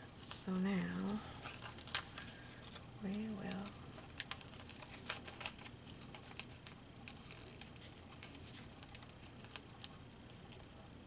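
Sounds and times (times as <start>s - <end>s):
paper rustling and clicking: 0.3s - 10.8s.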